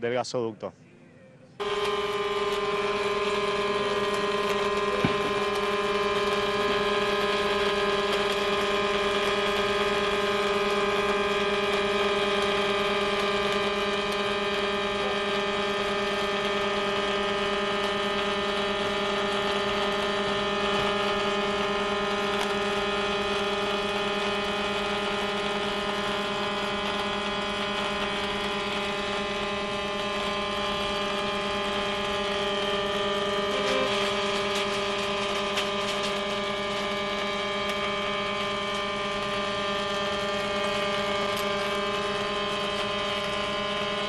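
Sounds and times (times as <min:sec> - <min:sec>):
welding machine hum: 0:01.6 - 0:44.0.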